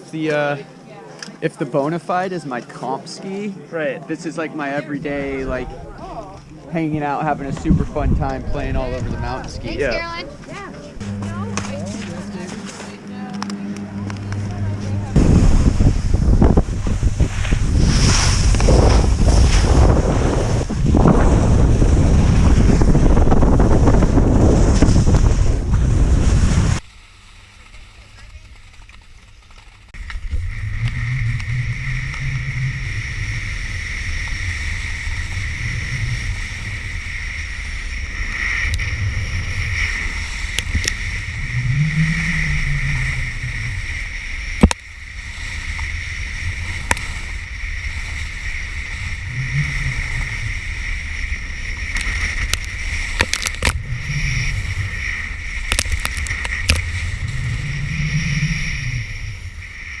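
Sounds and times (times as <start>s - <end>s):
wind rumbling over microphone: 5.0s - 26.8s, 29.9s - 60.0s.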